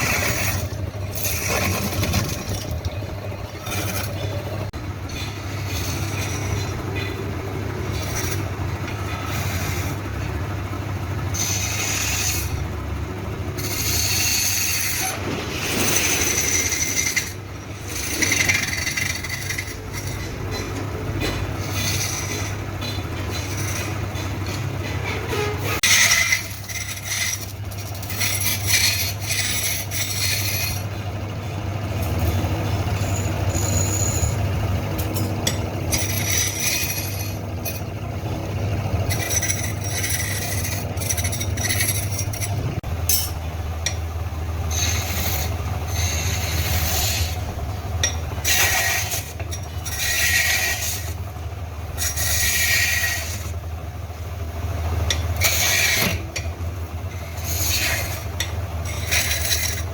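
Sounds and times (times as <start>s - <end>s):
scraping noises: 0.0s - 12.6s, 13.6s - 43.4s, 44.7s - 51.3s, 52.0s - 53.6s, 55.0s - 59.9s
low machine hum: 0.0s - 59.9s.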